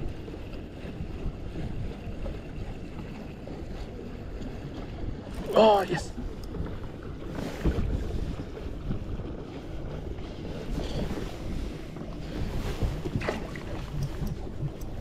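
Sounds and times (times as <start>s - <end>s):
water lapping around kayak: 0.0s - 15.0s
wind buffeting microphone: 0.0s - 15.0s.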